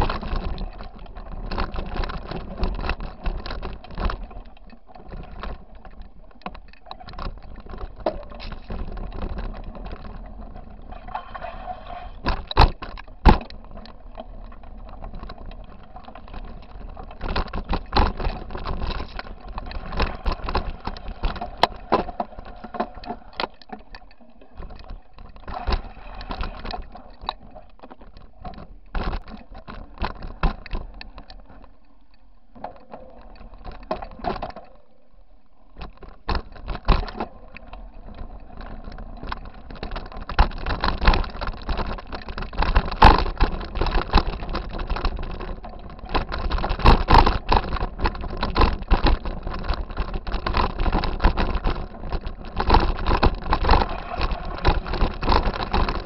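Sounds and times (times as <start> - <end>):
bike rattling over rocks: 0.0 - 31.8, 32.5 - 34.9, 35.6 - 56.0.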